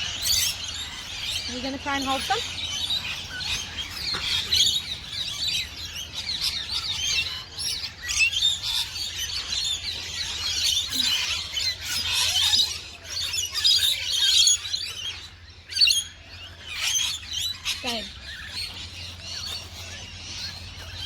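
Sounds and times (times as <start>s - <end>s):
birds chirping and chattering: 0.0s - 21.0s.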